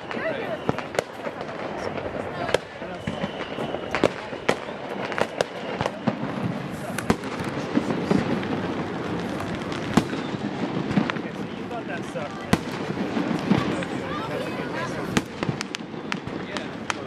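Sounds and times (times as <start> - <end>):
background rumble and crackle: 0.0 - 14.1
fireworks bangs and pops: 0.0 - 17.0.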